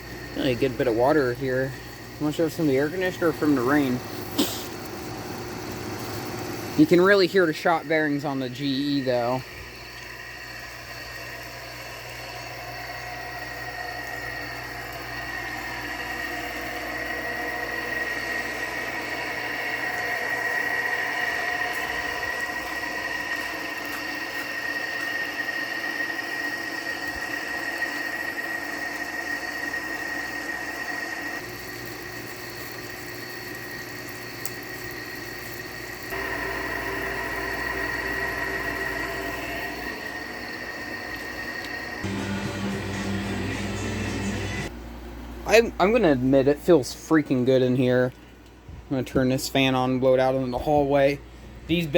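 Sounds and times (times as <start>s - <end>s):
high-pitched bearing whine: 0.0s - 44.7s
air conditioner fan and compressor: 0.0s - 51.9s.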